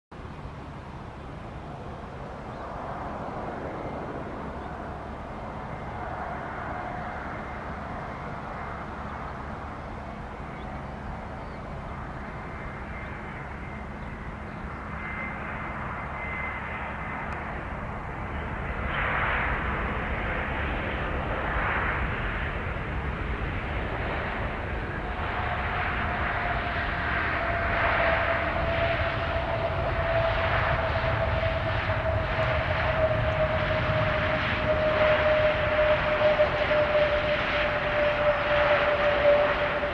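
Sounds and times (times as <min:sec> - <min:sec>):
jet engines whining: 0:00.2 - 0:39.9.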